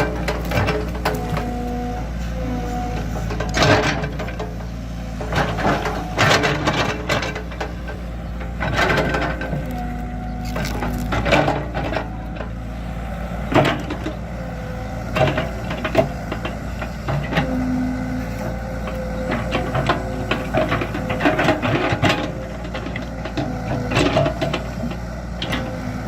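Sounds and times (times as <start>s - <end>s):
diesel engine running: 0.0s - 26.0s
hydraulic whine: 0.0s - 26.0s.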